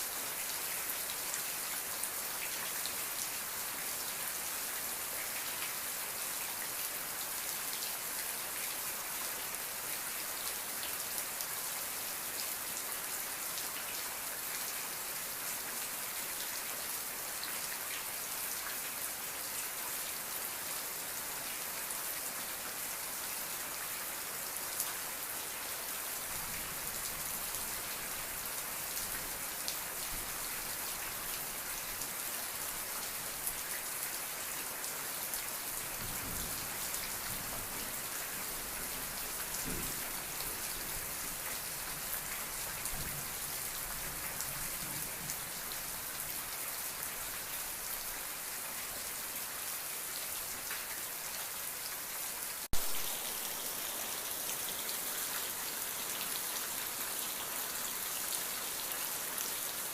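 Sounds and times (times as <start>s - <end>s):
rain ticking on a surface: 0.0s - 59.9s.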